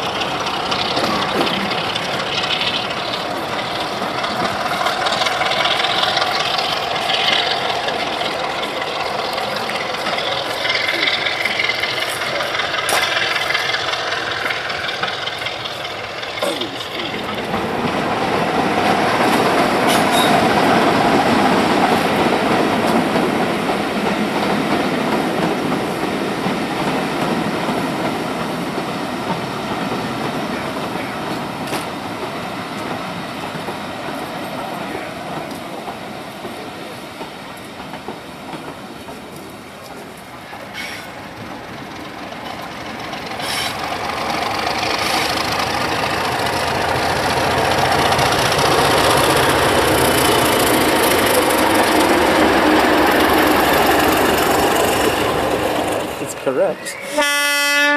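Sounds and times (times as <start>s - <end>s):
train wheels clattering: 0.0s - 57.5s
diesel locomotive engine: 0.0s - 57.9s.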